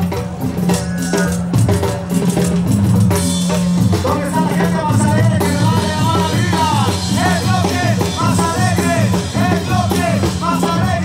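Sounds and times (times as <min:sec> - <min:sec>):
bass drum and cymbals: 0:00.0 - 0:11.0.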